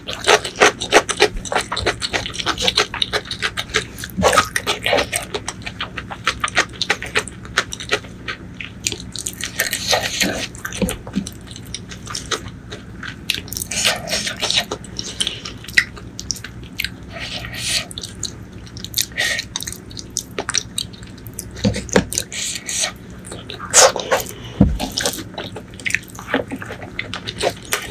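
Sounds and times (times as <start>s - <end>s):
wet chewing: 0.0s - 27.9s.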